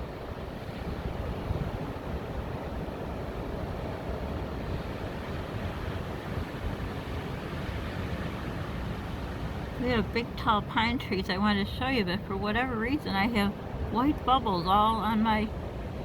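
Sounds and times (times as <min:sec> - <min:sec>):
wind blowing through pine trees: 0:00.0 - 0:16.0
wind rumbling on microphone: 0:00.0 - 0:16.0.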